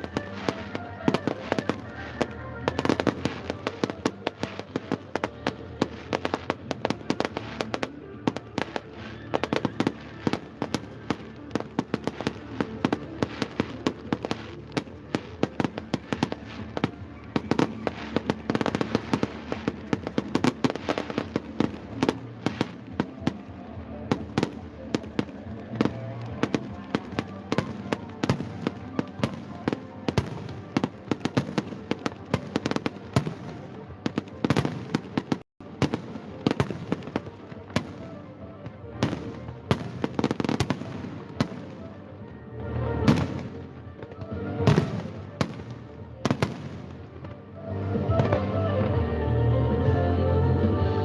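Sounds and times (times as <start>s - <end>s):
fireworks banging and crackling: 0.0s - 49.0s
music playing: 0.0s - 51.0s.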